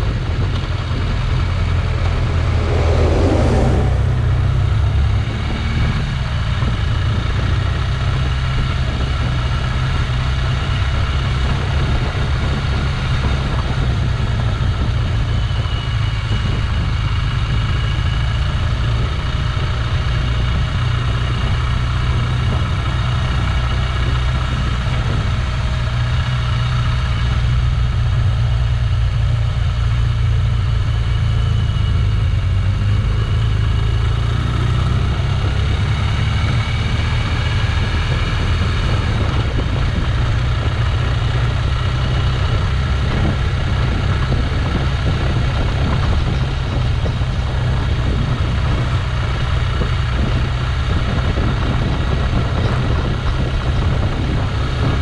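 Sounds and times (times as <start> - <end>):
engine droning: 0.0 - 55.0
road noise: 0.0 - 55.0.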